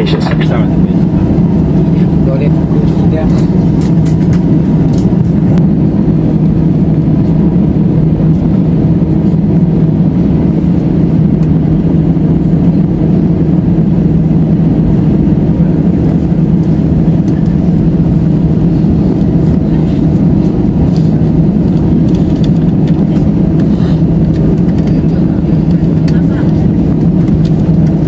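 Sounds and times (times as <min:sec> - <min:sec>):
air noise: 0:00.0 - 0:28.0
airliner cabin drone: 0:00.0 - 0:28.0.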